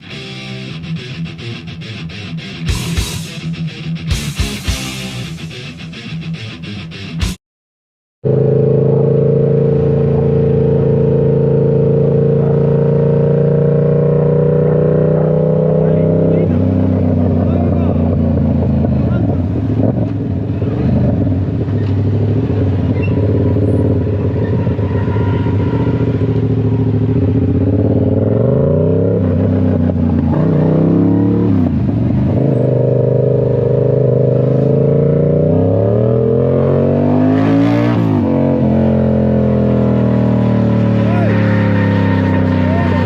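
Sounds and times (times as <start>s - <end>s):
car engine accelerating: 8.2s - 43.0s.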